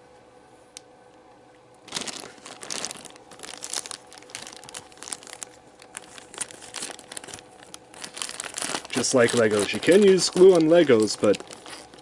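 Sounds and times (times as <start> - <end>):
packaging crinkling and rustling: 1.8 - 12.0.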